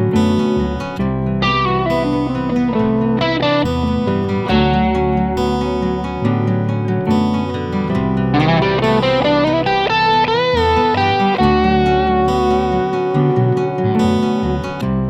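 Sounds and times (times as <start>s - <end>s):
bass guitar: 0.0s - 15.0s
fingerpicked acoustic guitar arpeggios: 0.0s - 15.0s
overdriven electric guitar lead: 0.0s - 15.0s.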